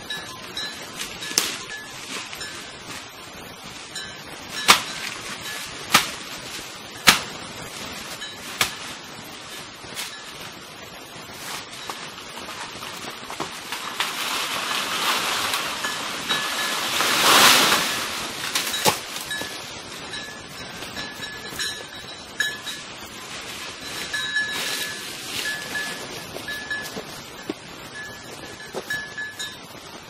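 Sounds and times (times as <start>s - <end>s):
wind through leaves: 0.0s - 30.0s.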